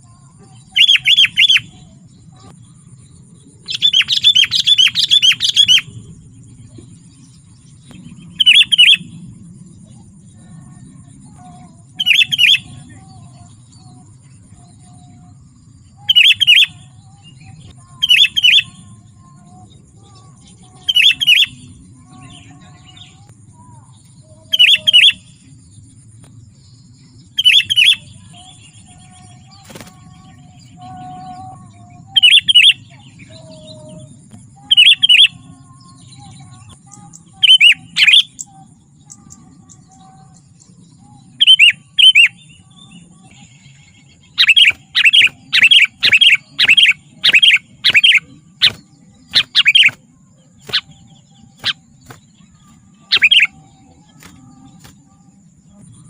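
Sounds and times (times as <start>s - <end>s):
low steady hum: 0.0s - 56.0s
bird chirping: 0.1s - 9.4s, 15.9s - 25.6s, 26.8s - 56.0s.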